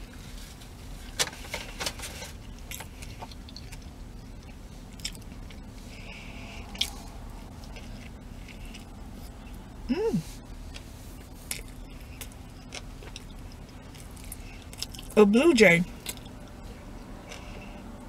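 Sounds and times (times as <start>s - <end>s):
person chewing a burger: 0.0s - 15.2s, 15.9s - 18.0s.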